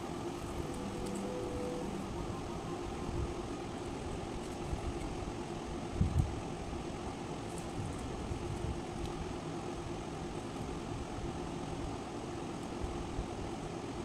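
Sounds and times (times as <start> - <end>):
faint constant hum: 0.0 - 14.0.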